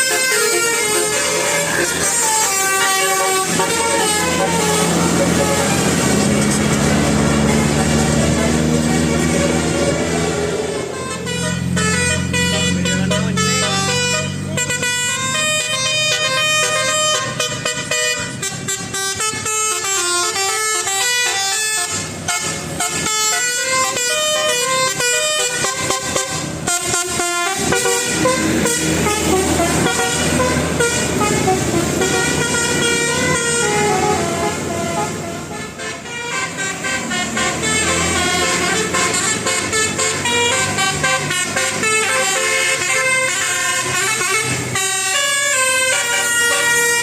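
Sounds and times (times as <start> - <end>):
multi-tone bus horn melody: 0.0 - 47.0.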